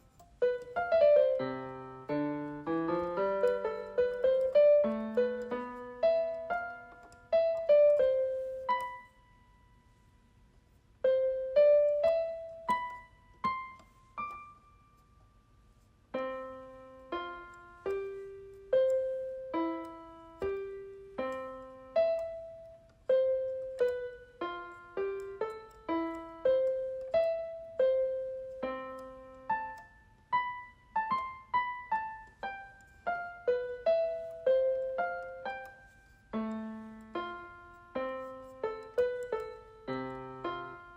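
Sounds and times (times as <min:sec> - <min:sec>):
slow solo piano notes: 0:00.0 - 0:10.1, 0:11.0 - 0:15.4, 0:16.1 - 0:40.9.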